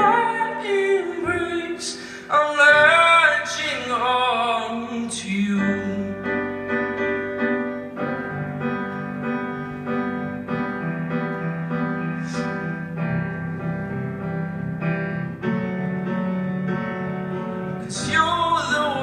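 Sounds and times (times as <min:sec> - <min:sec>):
piano playing sustained chords: 0:00.0 - 0:19.0.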